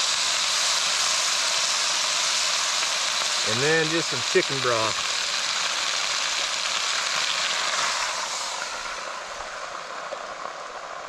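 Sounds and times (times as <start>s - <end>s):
broth sizzling in hot pot: 0.0s - 11.0s.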